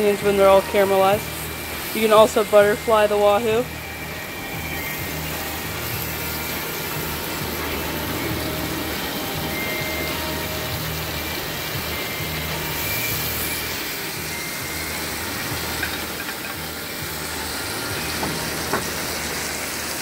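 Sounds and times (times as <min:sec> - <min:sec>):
background music with bass: 0:00.0 - 0:20.0
fish and onions sizzling: 0:00.0 - 0:20.0.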